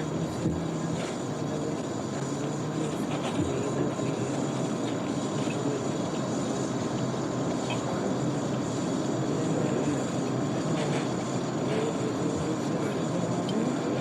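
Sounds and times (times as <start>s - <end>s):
room noise drone: 0.0s - 14.0s.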